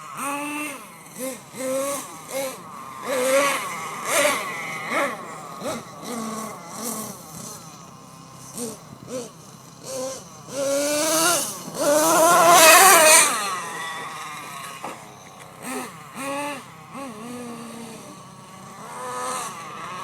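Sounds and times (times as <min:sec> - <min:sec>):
small engine revving in blips: 0:00.0 - 0:20.0.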